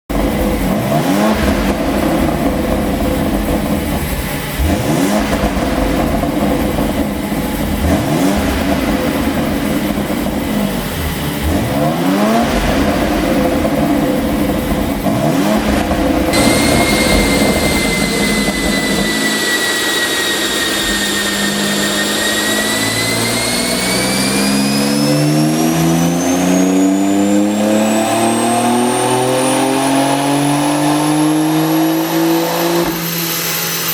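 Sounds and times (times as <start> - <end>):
car engine revving with exhaust pops: 0.1 - 19.1, 23.3 - 33.5
high whine: 0.1 - 33.9.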